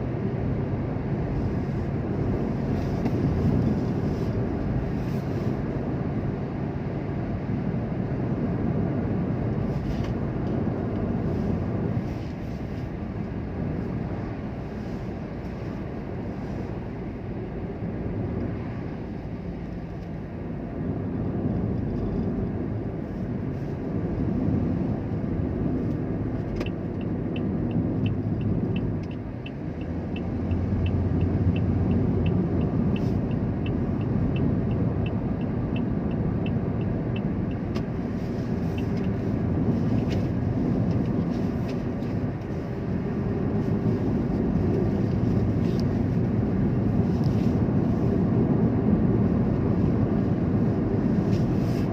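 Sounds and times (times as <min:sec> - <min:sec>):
vehicle engine low rumble: 0:00.0 - 0:51.9.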